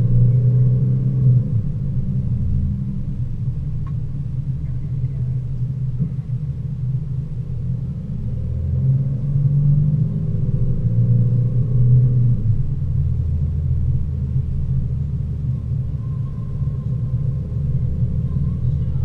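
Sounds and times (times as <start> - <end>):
car engine: 0.0 - 19.0.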